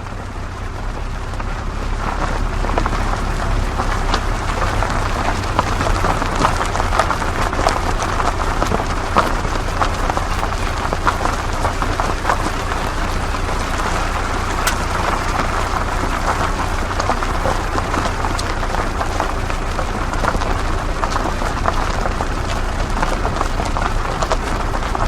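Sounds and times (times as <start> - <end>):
tyres crackling on gravel: 0.0 - 25.0
vehicle engine rumble: 0.0 - 25.0.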